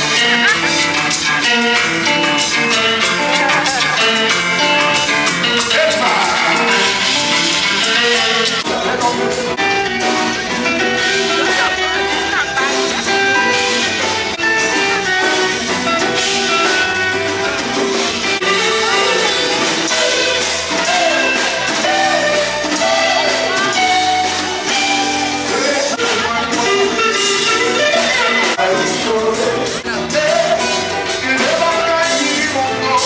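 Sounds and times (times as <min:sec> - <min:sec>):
music with singing and guitar: 0:00.0 - 0:33.0.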